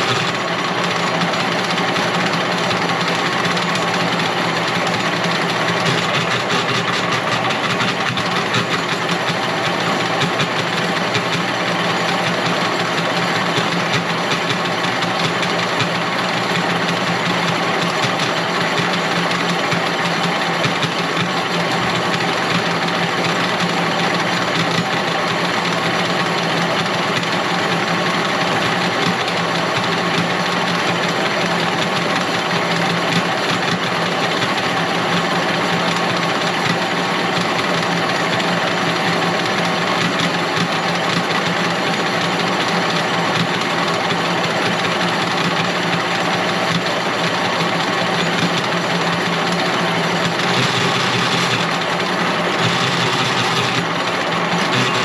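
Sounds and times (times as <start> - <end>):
wire stripping machine running: 0.0 - 55.0.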